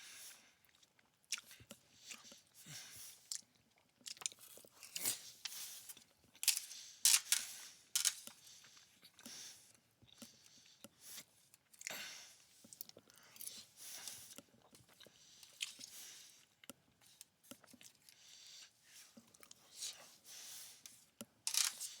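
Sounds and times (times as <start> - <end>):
person chewing food: 0.6 - 7.3, 7.9 - 19.9.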